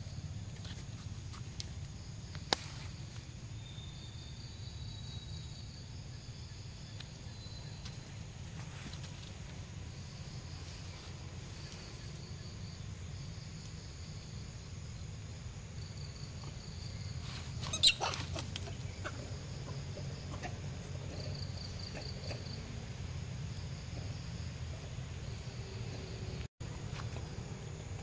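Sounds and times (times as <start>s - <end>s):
high insect trills: 0.0s - 28.0s.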